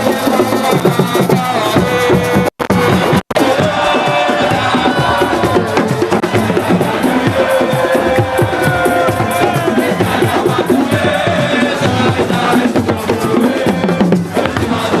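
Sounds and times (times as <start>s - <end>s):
crowd voices: 0.0s - 15.0s
fast dense drumming: 0.0s - 15.0s.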